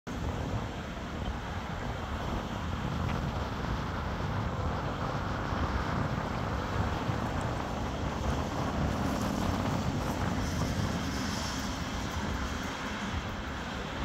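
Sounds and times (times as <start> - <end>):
outdoor background rumble: 0.1 - 14.0
wind noise on microphone: 0.1 - 14.0.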